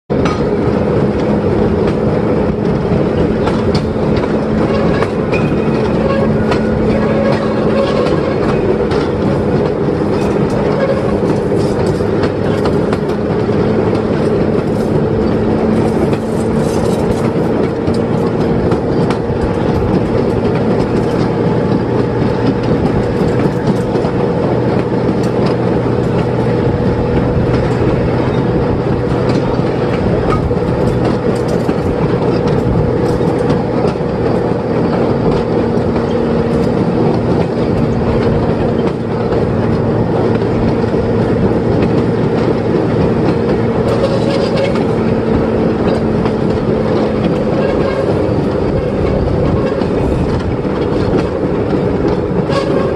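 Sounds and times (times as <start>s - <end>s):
wheels clicking on rails: 0.1s - 52.9s.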